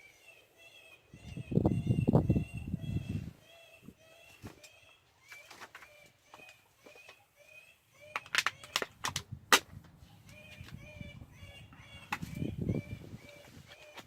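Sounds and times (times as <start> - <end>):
high chirping squeals: 0.0 - 8.8, 10.0 - 14.0.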